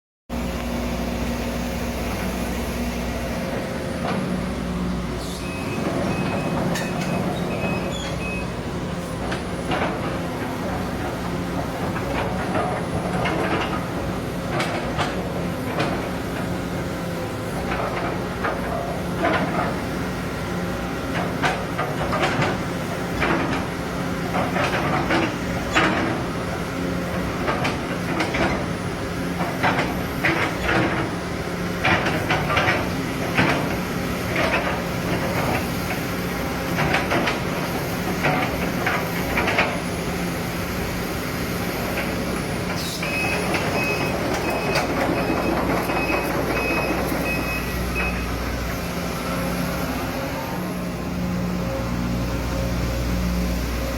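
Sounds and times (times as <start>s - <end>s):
engine running with even hum: 0.3s - 53.9s.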